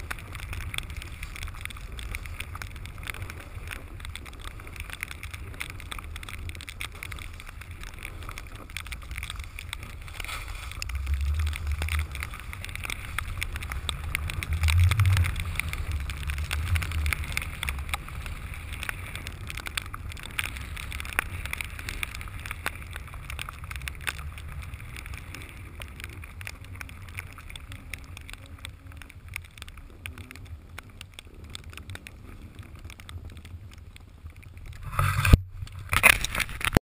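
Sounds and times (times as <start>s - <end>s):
snowboard carving over snow: 0.0s - 33.6s, 34.8s - 35.4s
wind buffeting microphone: 0.0s - 36.8s.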